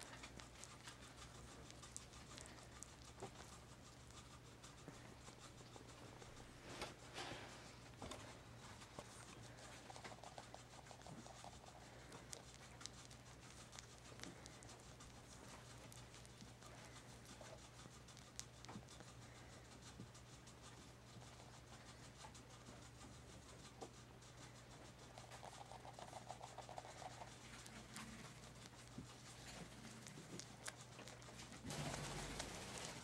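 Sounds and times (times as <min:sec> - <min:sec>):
faint clicks and rustles: 0:00.0 - 0:33.0.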